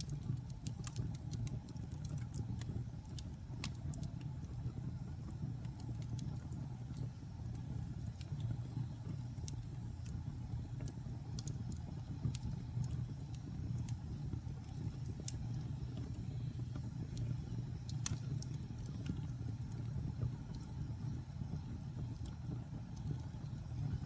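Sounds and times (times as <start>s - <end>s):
burning logs crackling and popping: 0.0s - 24.0s
low rumble of flames: 0.0s - 24.0s.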